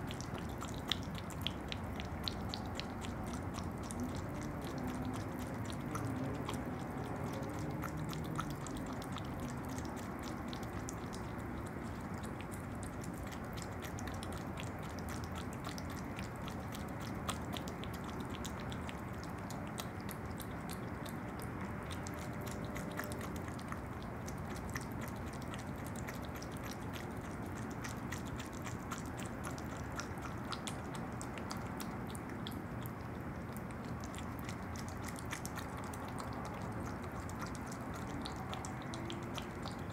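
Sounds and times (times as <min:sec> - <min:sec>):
animal chewing with clicks: 0:00.0 - 0:39.9.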